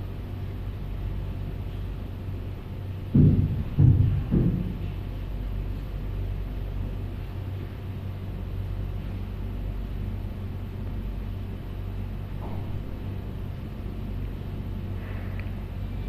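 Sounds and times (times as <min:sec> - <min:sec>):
low hum and rumble: 0:00.0 - 0:16.0.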